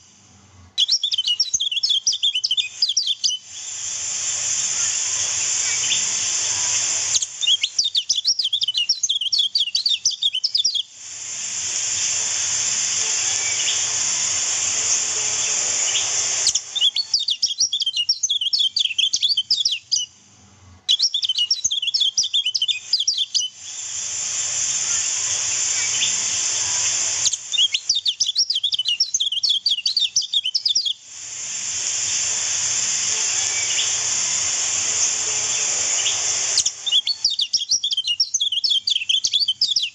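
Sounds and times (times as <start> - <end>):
running water hiss: 0.0 - 20.1, 20.8 - 39.9
small bird twittering: 0.8 - 10.9, 11.9 - 20.2, 20.9 - 31.0, 32.0 - 39.9.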